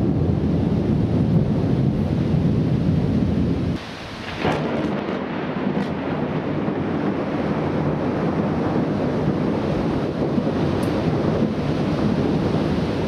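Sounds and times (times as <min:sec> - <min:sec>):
steady rain: 0:00.0 - 0:13.0
thunder clap and rumble: 0:00.0 - 0:13.0.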